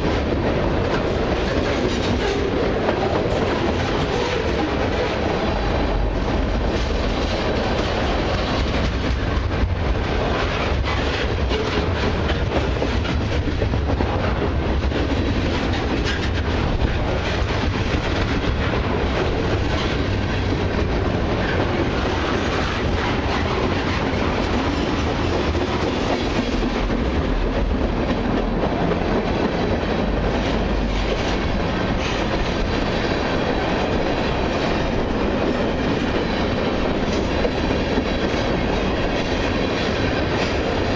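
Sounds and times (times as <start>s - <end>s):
freight train rumbling past: 0.0s - 40.9s
wheels clicking over rail joints: 0.0s - 40.9s.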